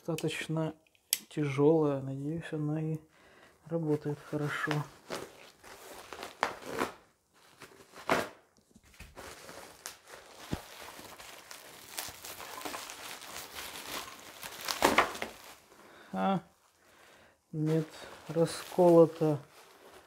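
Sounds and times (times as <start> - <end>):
plastic bag and bubble wrap crinkling: 3.7 - 20.0.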